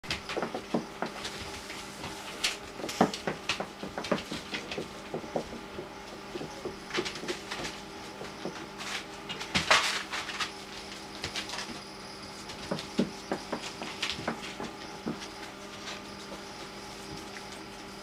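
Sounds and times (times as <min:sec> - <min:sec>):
puppies scuffling: 0:00.0 - 0:18.0.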